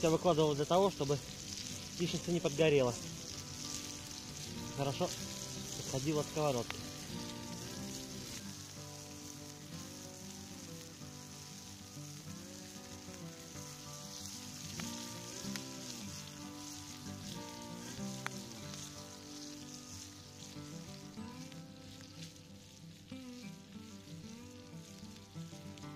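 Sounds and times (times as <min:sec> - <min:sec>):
eggs and bacon sizzling: 0:00.0 - 0:25.9
soft background music: 0:00.0 - 0:25.9.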